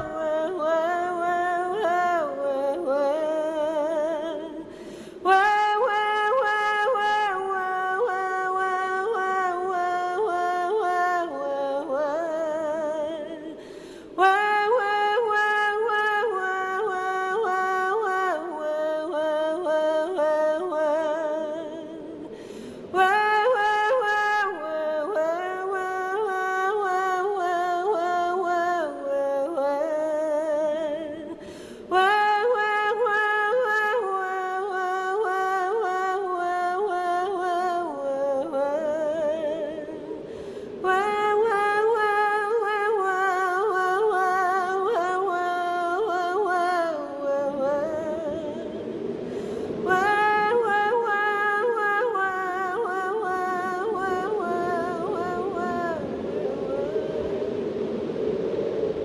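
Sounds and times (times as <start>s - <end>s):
woman singing a cappella: 0.0s - 58.2s.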